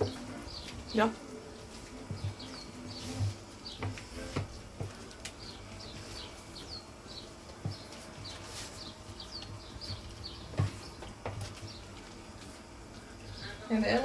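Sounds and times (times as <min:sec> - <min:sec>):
small bird chirping: 0:00.0 - 0:04.4, 0:05.2 - 0:12.1.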